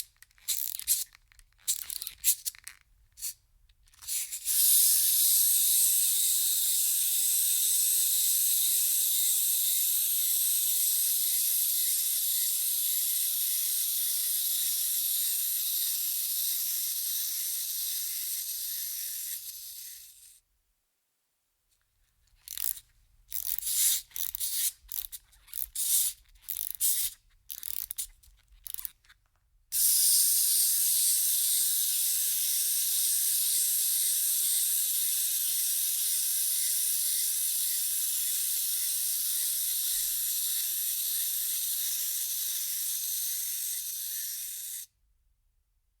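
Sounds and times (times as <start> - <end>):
wind-up key ratcheting: 0.0 - 20.4, 22.4 - 29.2, 29.8 - 44.9
clockwork spring whirring: 4.0 - 20.4, 22.5 - 29.0, 29.8 - 44.9.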